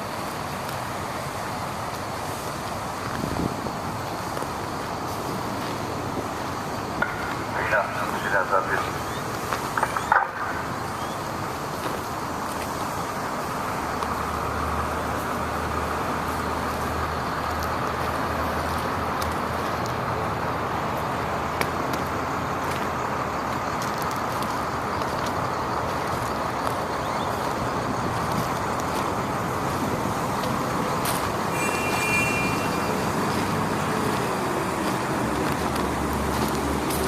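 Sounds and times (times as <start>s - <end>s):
truck diesel engine running: 0.0s - 37.0s.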